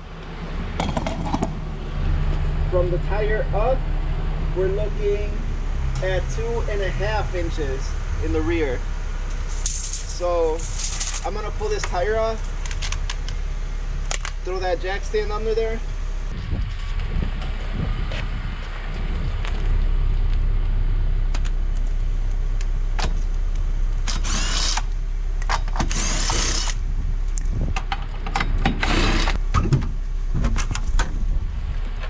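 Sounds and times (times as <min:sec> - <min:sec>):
low rumble: 0:00.0 - 0:24.2, 0:26.4 - 0:32.0.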